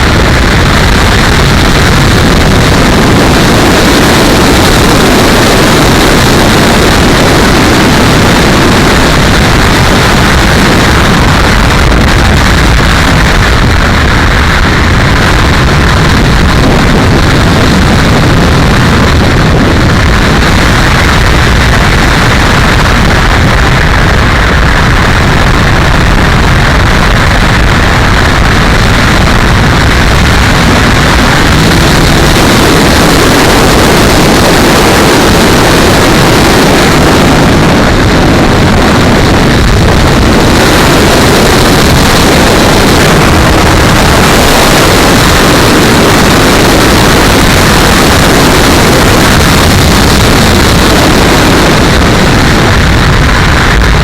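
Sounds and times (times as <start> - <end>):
model airplane rushing noise: 0.0 - 54.0.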